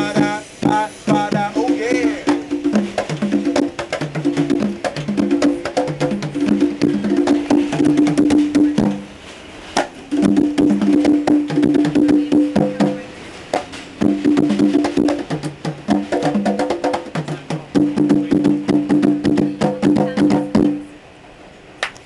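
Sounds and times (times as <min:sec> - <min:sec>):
street percussion clicks and drums: 0:00.0 - 0:21.0.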